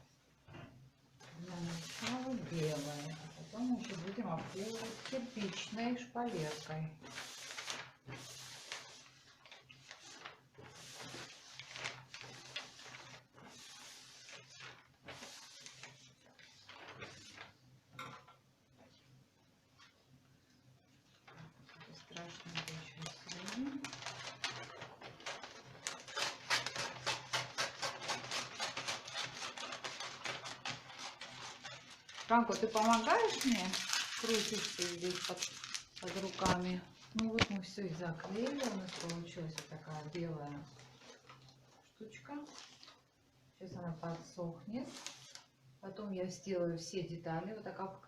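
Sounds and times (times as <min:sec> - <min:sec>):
paper rustling: 0:01.2 - 0:17.6, 0:21.1 - 0:43.1, 0:43.9 - 0:45.5.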